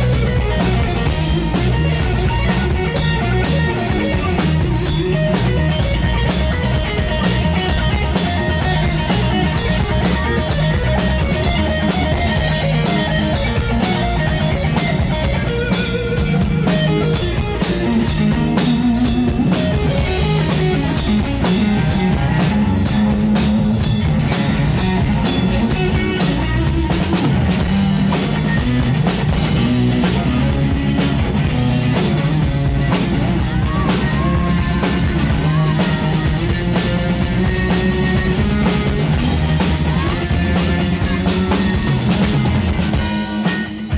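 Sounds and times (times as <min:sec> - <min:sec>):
drum kit: 0:00.0 - 0:43.9
electric guitar: 0:00.0 - 0:43.9.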